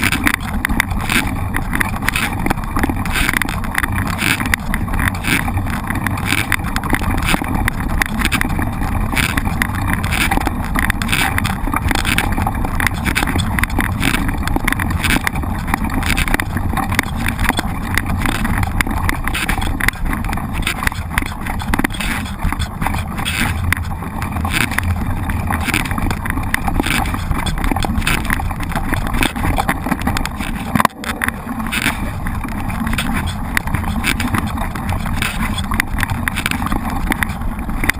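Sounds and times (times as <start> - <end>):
bike knocking and rattling: 0.0 - 37.9
wind and rolling tyre noise: 0.0 - 37.9.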